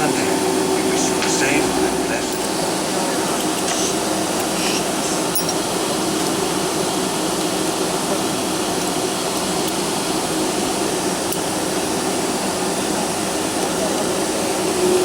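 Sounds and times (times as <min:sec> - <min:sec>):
airliner cabin rush and hum: 0:00.0 - 0:15.0.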